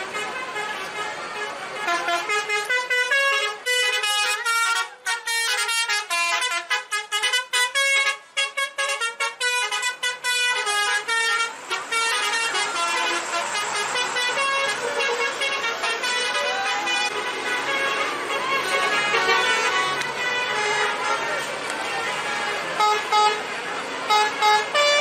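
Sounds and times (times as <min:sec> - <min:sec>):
bus horn playing melody: 0:00.0 - 0:25.0.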